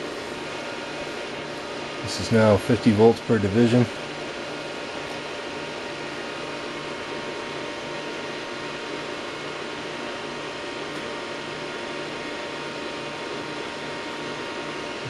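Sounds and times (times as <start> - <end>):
cooling fans whirring: 0.0 - 15.0
faint steady whine tones: 0.0 - 15.0.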